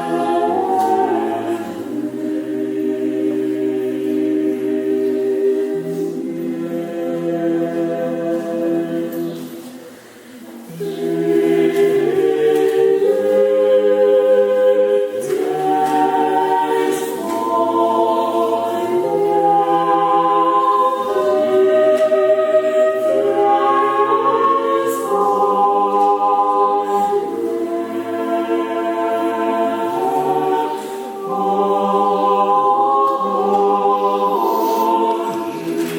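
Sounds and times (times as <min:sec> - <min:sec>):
choir singing a cappella: 0:00.0 - 0:35.9.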